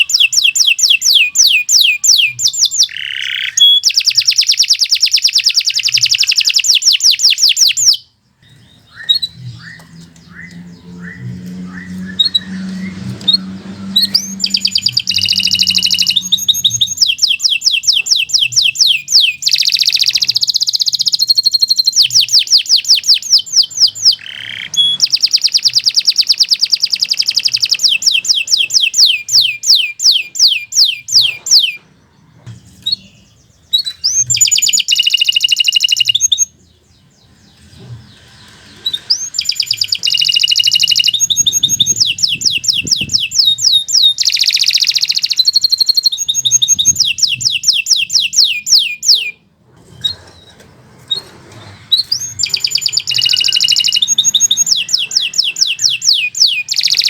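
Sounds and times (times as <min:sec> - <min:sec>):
canary singing trills: 0:00.0 - 0:51.3, 0:51.9 - 0:57.0.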